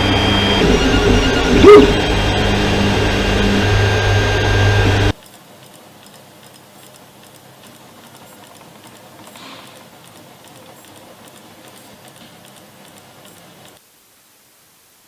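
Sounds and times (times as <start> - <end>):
machine humming and whining: 0.0 - 13.8.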